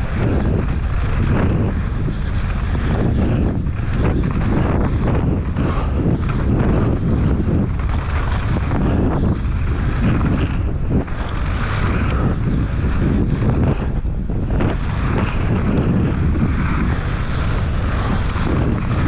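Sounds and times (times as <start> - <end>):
bike clattering over rough ground: 0.0 - 19.0
tyres rolling over dirt and stones: 0.0 - 19.0
wind on microphone: 0.0 - 19.0.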